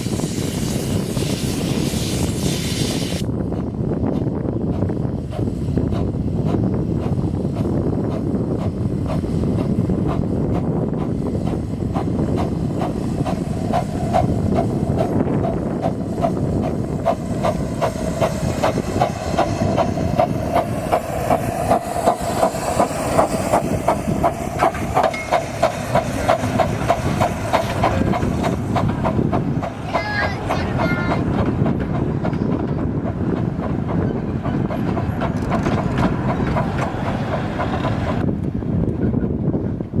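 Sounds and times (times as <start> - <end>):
miniature train rumbling: 0.0 - 40.0
wheels clacking over rail joints: 4.1 - 39.3.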